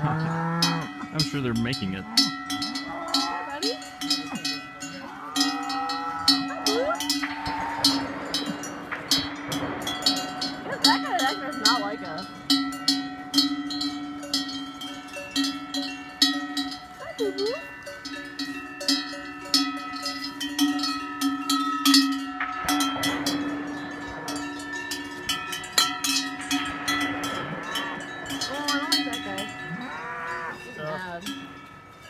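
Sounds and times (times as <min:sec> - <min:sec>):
cowbells clanging: 0:00.0 - 0:32.0.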